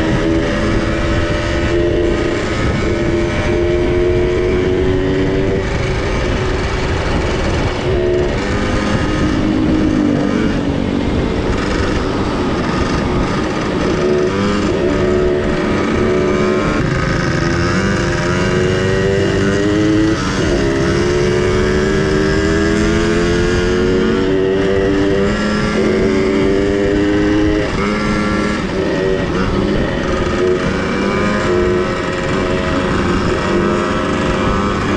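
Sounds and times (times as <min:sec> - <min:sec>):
two-stroke minibike engines: 0:00.0 - 0:34.9.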